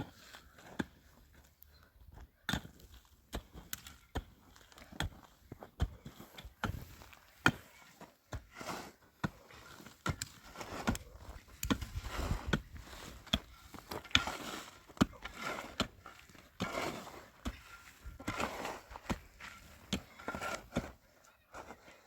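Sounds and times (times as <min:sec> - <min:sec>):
scraping and scuffing: 0:02.5 - 0:22.0.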